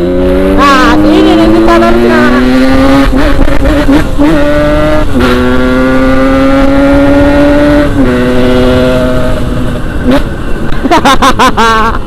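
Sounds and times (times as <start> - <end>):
motorcycle engine accelerating: 0.0 - 11.9
low wind rumble: 0.0 - 12.0.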